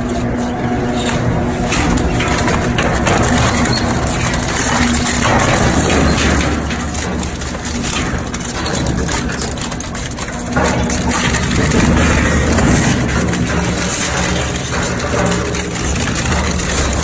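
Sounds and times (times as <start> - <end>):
low machine hum: 0.0 - 17.0
metallic crunching and cracking: 0.0 - 17.0.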